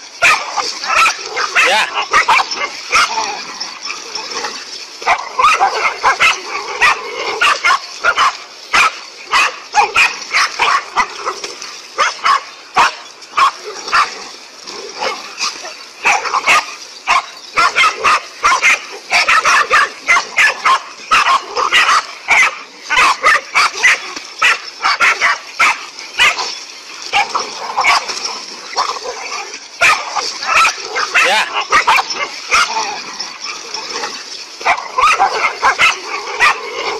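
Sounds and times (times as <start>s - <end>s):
dogs barking rapidly: 0.0s - 36.9s.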